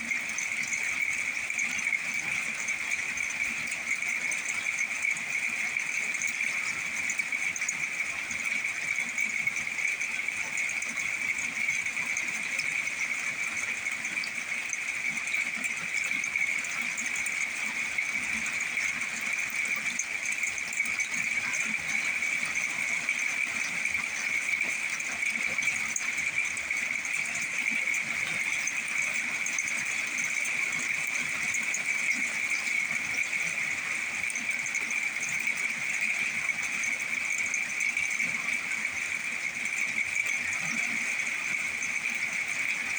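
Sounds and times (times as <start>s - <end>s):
insects calling: 0.0s - 42.9s.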